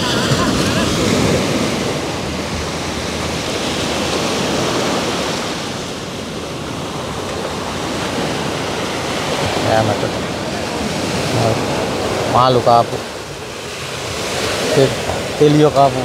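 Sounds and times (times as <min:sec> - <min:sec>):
sea surf washing onto shore: 0:00.0 - 0:16.0.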